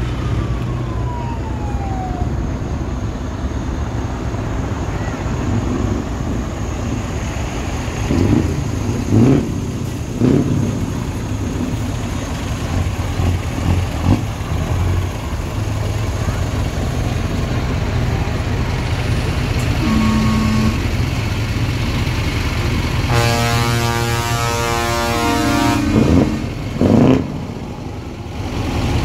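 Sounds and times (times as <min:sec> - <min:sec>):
truck engines rumbling: 0:00.0 - 0:29.0
truck engine revving: 0:05.5 - 0:29.0.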